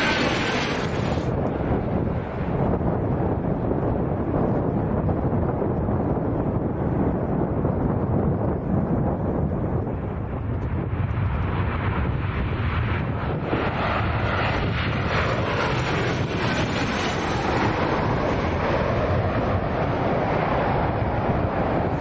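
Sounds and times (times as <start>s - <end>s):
airliner passing low overhead: 0.0s - 22.0s
wind buffeting microphone: 0.0s - 22.0s.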